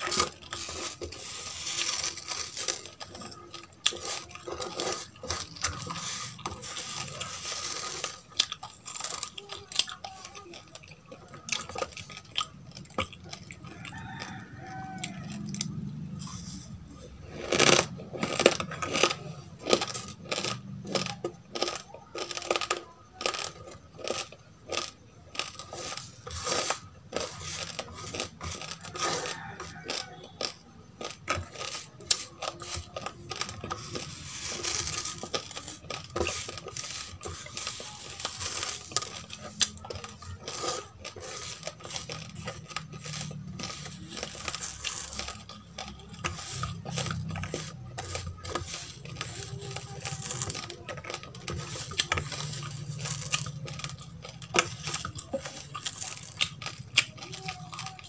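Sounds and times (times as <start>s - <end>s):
fingers scraping grains from plate: 0.0s - 15.4s, 16.1s - 58.0s
crunching of roasted rice: 0.0s - 58.0s.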